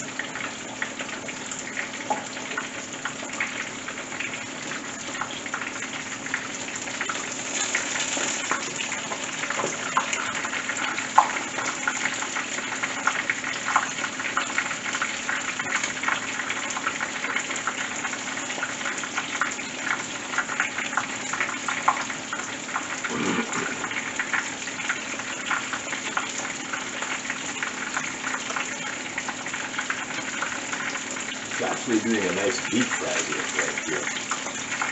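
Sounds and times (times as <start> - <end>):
fish sizzling in hot oil: 0.0 - 34.9.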